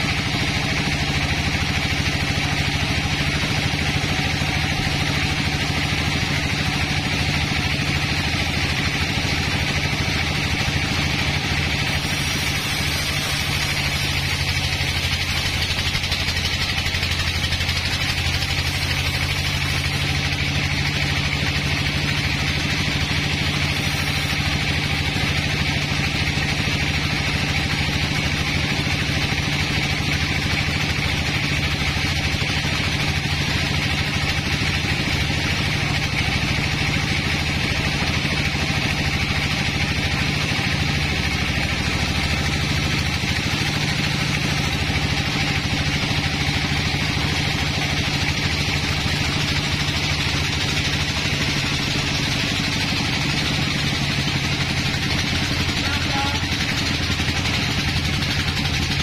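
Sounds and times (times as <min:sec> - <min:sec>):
band saw motor hum: 0:00.0 - 0:59.0
saw blade whine: 0:00.0 - 0:59.0.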